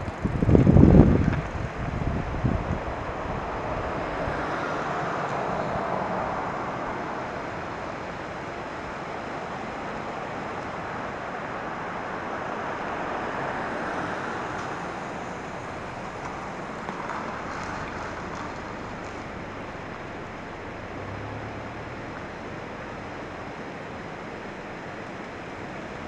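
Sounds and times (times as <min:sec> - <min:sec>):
cars driving past: 0:00.0 - 0:26.0.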